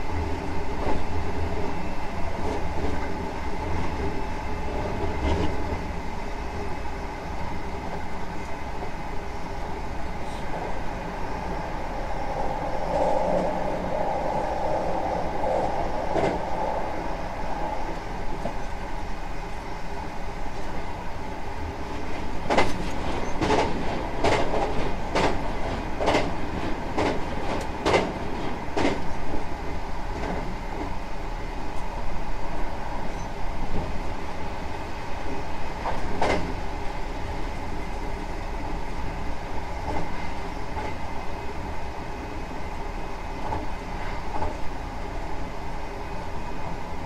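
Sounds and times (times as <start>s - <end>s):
train rumble from inside: 0.0s - 47.0s.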